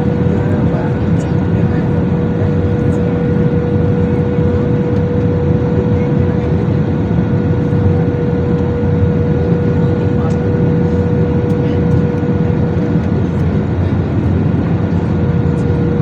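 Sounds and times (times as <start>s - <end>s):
jet cabin engine roar: 0.0s - 16.0s
mid-pitched hum: 0.0s - 16.0s.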